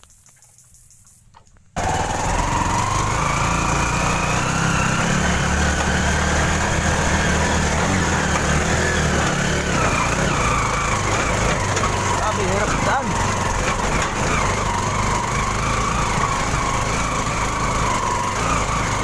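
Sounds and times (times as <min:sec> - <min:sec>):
small motorcycle engine whine: 0:01.8 - 0:19.0.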